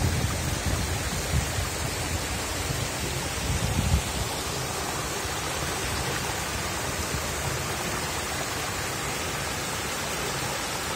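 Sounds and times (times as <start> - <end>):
stream babbling over pebbles: 0.0 - 10.9.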